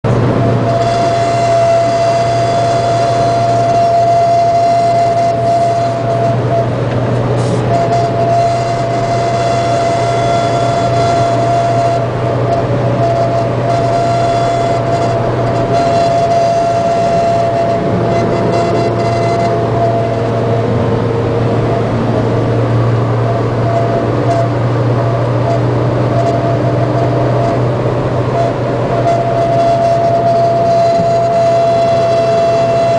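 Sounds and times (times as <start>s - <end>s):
car road and engine drone: 0.0s - 32.9s
wind whistling: 0.1s - 32.9s.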